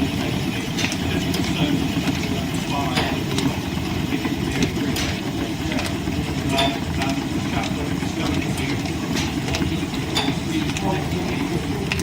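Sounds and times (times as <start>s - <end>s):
lathe and belts droning: 0.0s - 12.0s.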